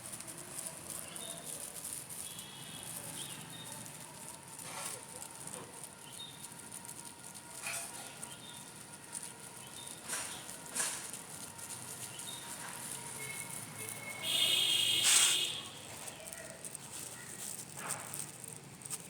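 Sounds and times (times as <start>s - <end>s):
kittens rustling in plastic bag: 0.0s - 19.0s.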